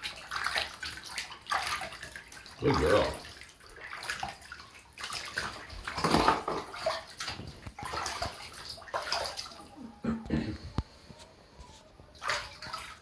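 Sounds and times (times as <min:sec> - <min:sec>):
water splashing in a bathtub: 0:00.0 - 0:13.0.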